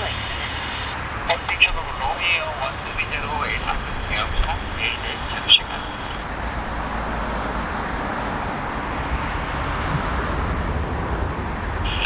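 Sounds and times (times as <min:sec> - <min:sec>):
jet airliner engines rushing: 0:00.0 - 0:12.0.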